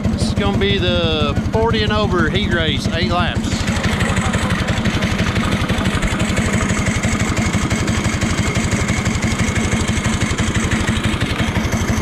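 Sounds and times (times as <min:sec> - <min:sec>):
kart engine idling: 0:00.0 - 0:12.0.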